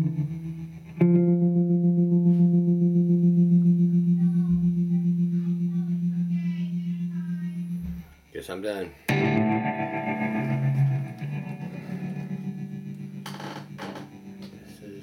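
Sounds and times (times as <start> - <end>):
electric guitar low note ringing: 0.0 - 8.0, 9.1 - 14.8.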